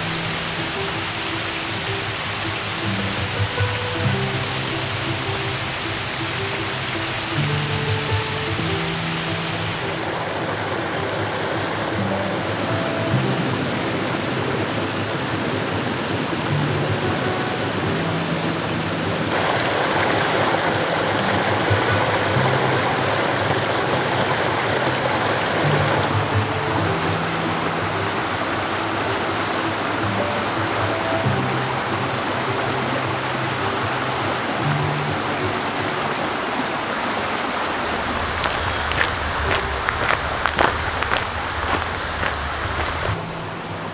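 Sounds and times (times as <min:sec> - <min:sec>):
soft background music: 0:00.0 - 0:43.9
stream rushing over rocks: 0:00.0 - 0:43.9.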